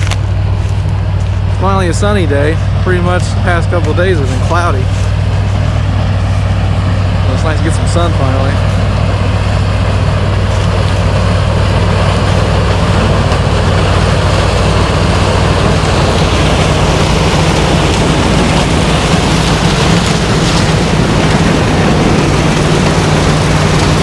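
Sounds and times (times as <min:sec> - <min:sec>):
heavy machinery engine drone: 0:00.0 - 0:24.0
higher engine note: 0:00.0 - 0:24.0.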